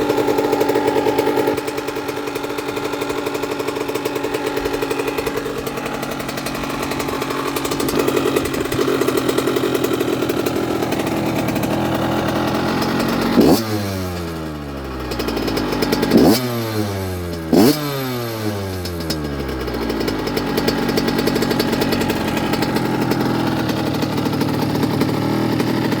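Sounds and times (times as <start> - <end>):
two-stroke engine idling and revving: 0.0 - 26.0.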